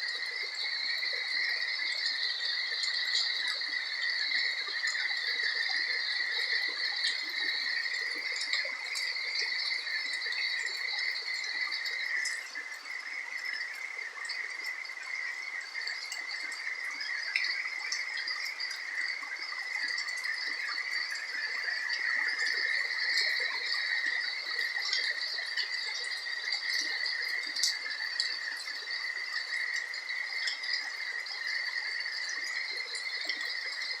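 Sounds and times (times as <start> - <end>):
insects calling: 0.0 - 34.0
rain dripping: 0.0 - 34.0.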